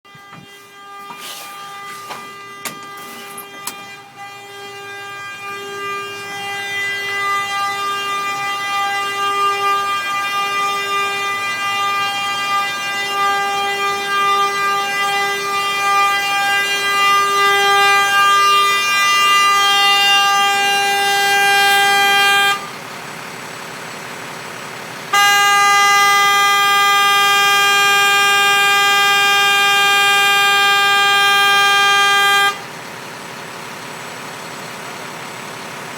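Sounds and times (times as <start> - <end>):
truck horn blast: 0.0 - 22.9, 25.1 - 32.8.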